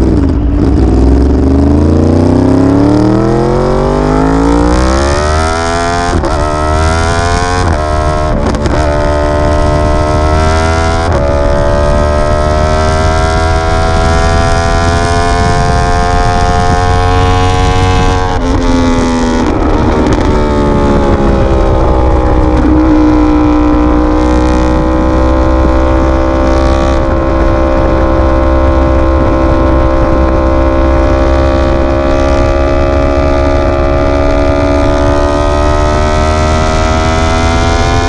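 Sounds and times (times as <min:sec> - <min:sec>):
motorcycle engine running loud: 0:00.0 - 0:38.0.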